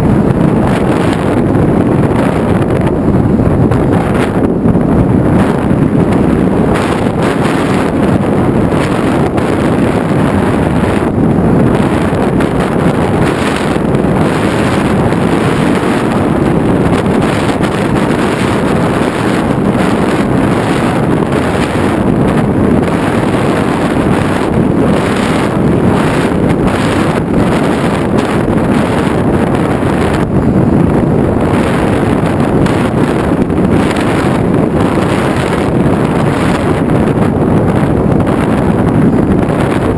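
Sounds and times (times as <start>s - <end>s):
rush of air over microphone: 0.0s - 39.9s.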